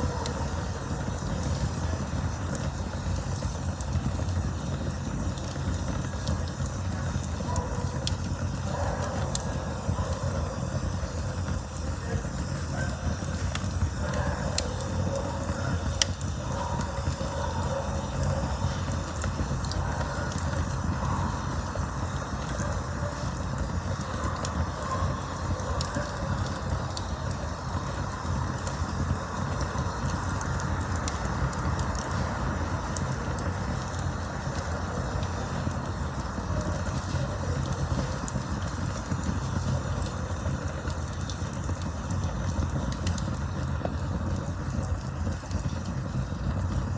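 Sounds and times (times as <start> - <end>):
campfire flames rumbling: 0.0 - 46.9
fire crackles and pops: 0.0 - 46.9.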